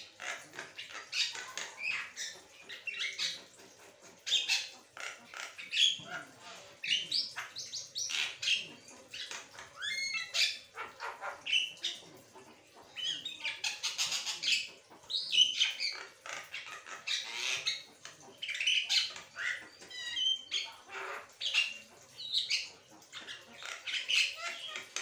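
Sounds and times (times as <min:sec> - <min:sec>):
myna bird chattering and whistling: 0:00.0 - 0:03.6, 0:04.2 - 0:25.0.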